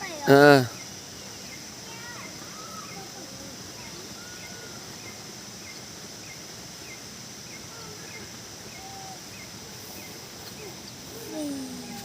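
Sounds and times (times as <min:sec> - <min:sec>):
high insect drone: 0:00.0 - 0:12.0
faint bird chirps: 0:00.5 - 0:12.0.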